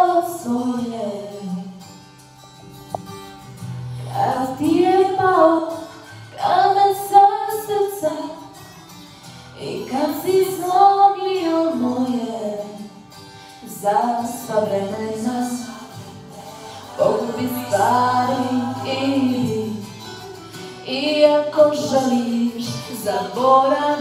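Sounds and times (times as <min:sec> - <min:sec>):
woman singing into microphone: 0:00.0 - 0:01.8, 0:04.0 - 0:08.5, 0:09.6 - 0:13.0, 0:13.6 - 0:24.0.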